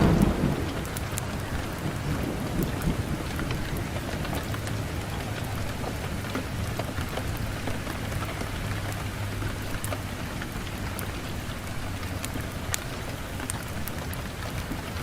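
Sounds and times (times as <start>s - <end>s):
fire crackling and popping: 0.0s - 15.0s
wood fire hissing: 0.0s - 15.0s.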